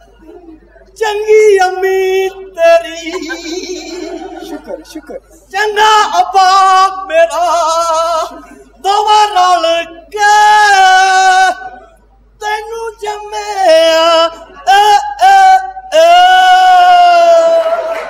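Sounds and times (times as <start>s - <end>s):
person singing unaccompanied: 1.0s - 17.9s.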